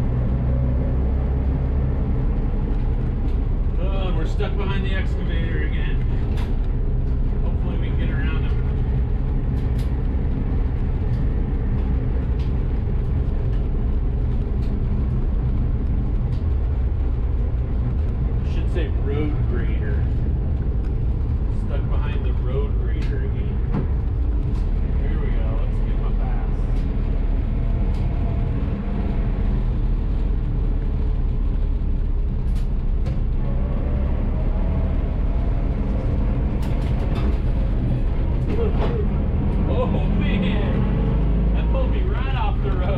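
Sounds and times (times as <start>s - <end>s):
road noise: 0.0s - 42.9s
vehicle engine rumble: 0.0s - 42.9s.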